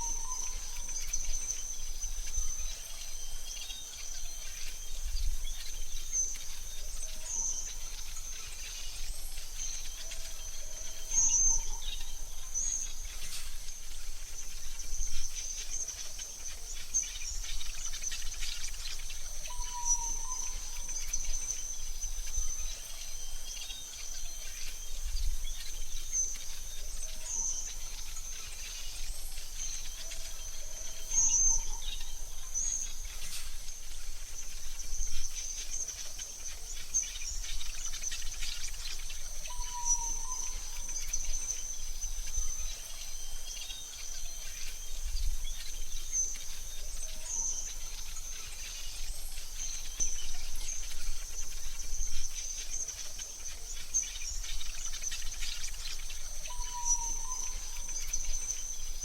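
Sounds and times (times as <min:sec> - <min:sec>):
bird chirps and calls: 0:00.0 - 0:13.6, 0:14.6 - 0:59.0
high-pitched insect trill: 0:00.0 - 0:59.0.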